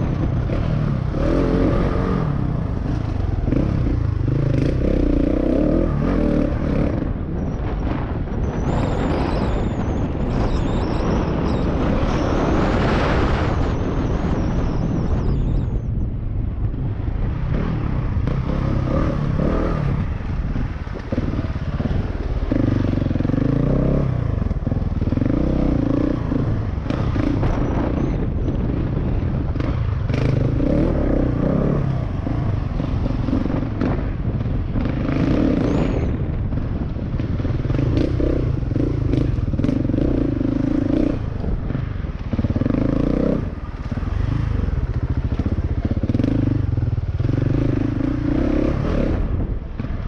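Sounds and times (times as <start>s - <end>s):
motorcycle engine revving: 0.0s - 15.9s, 16.7s - 50.0s.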